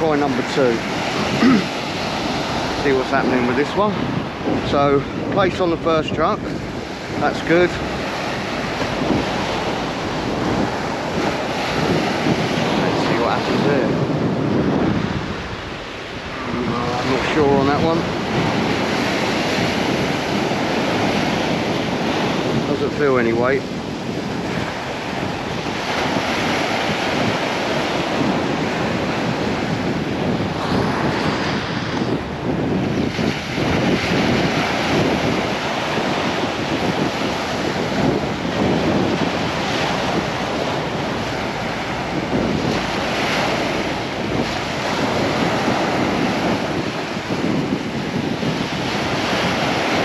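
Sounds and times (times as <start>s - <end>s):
small waves breaking on sand: 0.0s - 50.0s
wind buffeting microphone: 0.0s - 50.0s.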